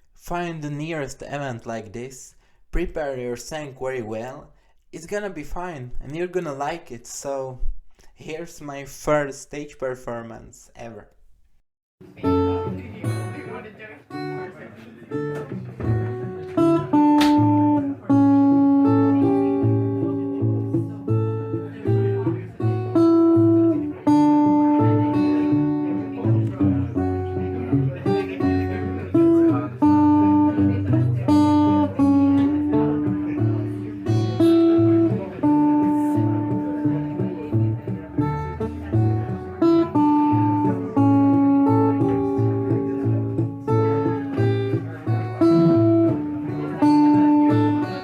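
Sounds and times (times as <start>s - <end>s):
fingerstyle guitar: 0.0s - 48.0s.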